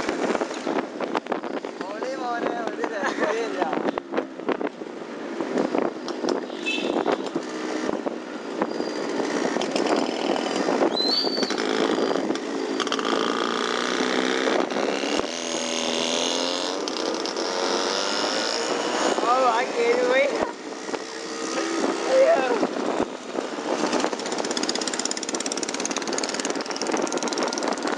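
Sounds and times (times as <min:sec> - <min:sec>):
two-stroke motorcycle engines: 0:00.0 - 0:27.9.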